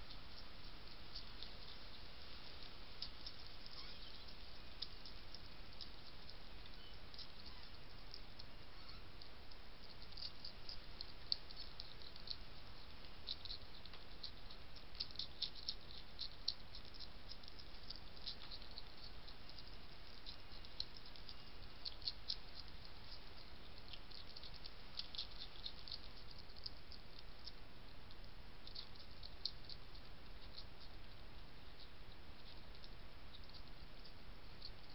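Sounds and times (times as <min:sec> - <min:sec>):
hedgehog crunching kibble: 0:00.0 - 0:34.9
steady hiss: 0:00.0 - 0:34.9.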